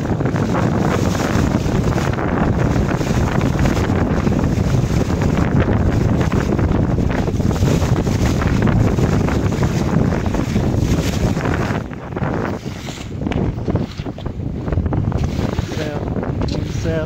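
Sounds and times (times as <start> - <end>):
water splashing along boat hull: 0.0 - 17.0
wind buffeting microphone: 0.0 - 17.0.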